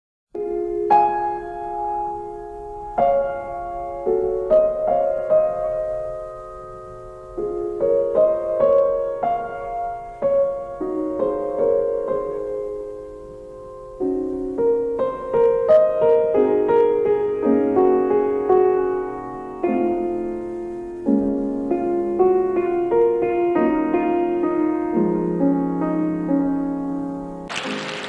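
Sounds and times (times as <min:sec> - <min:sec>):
solo piano music: 0:00.3 - 0:28.0.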